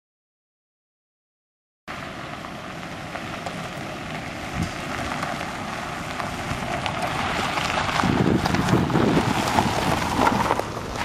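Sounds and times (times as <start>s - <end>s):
car engine rumble: 1.9s - 11.0s
tyres crackling on gravel: 1.9s - 11.0s.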